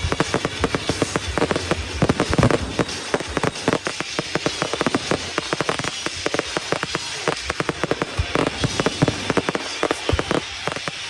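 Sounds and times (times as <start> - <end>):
fireworks crackling pops: 0.0 - 11.0
heavy firework boom: 0.0 - 11.0.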